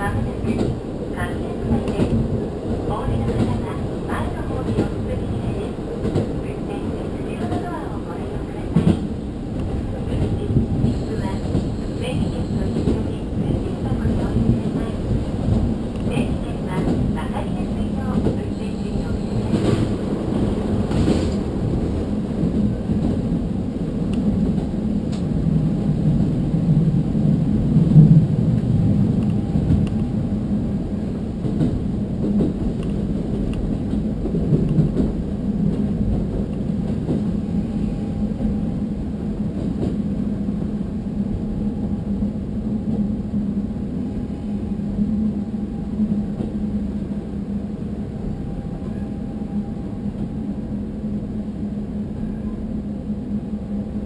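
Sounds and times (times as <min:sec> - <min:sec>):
train rail rumble: 0:00.0 - 0:54.0.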